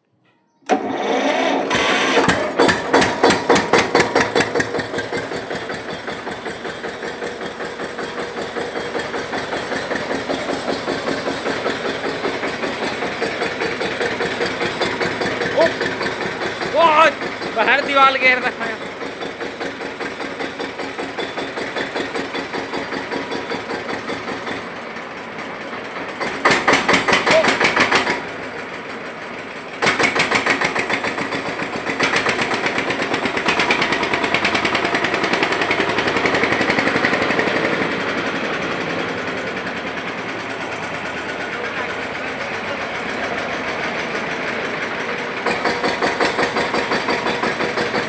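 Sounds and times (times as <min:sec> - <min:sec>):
tractor diesel engine revving: 0:00.7 - 0:48.0.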